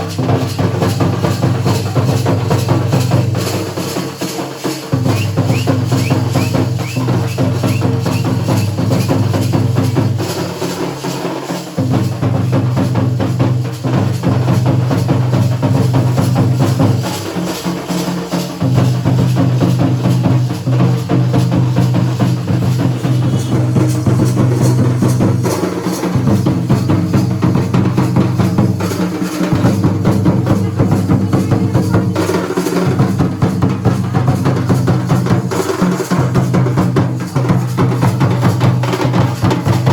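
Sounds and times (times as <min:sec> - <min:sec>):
drums beating fast rhythm: 0:00.0 - 0:39.9.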